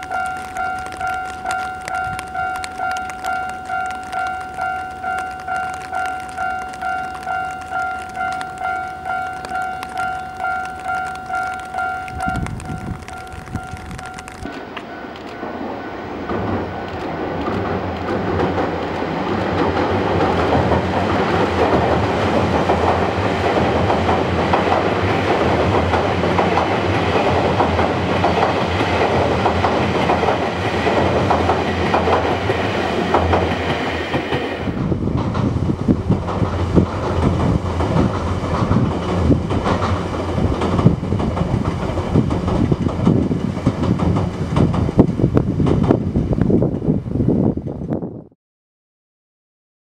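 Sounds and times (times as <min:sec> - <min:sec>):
train wheels clattering: 0:00.0 - 0:46.1.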